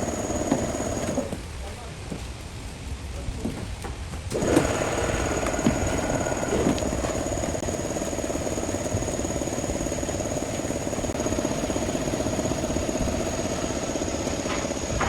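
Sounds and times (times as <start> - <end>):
heavy machinery engine running: 0.0 - 1.4, 4.3 - 15.0.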